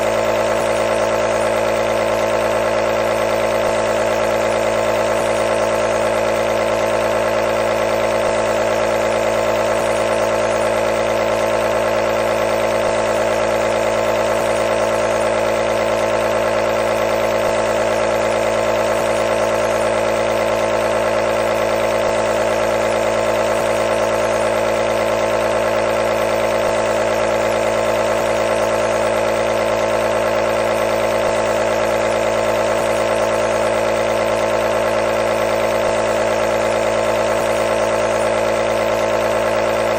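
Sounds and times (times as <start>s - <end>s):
nebulizer compressor buzzing hum: 0.0s - 39.9s.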